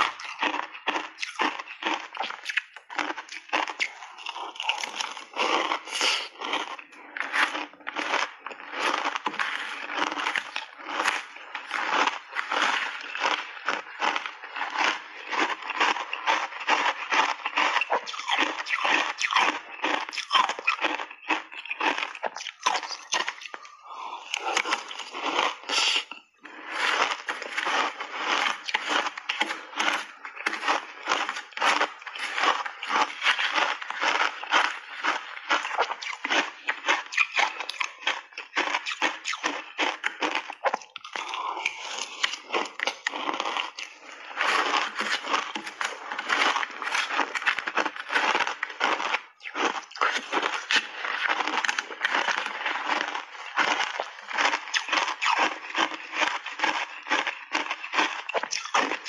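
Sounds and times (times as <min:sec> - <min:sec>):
chewing crunchy ice: 0:00.0 - 0:59.0.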